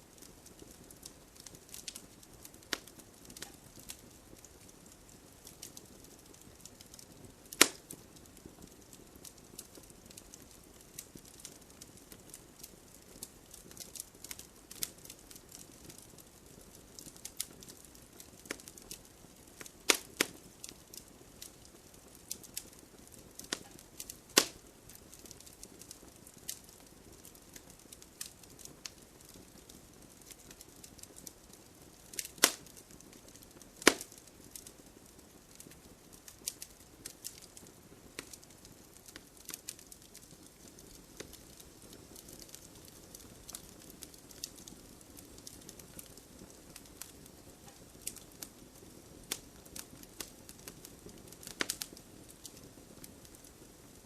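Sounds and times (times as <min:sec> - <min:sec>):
campfire crackling: 0:00.0 - 0:54.0
sharp pops from fire: 0:00.1 - 0:54.0.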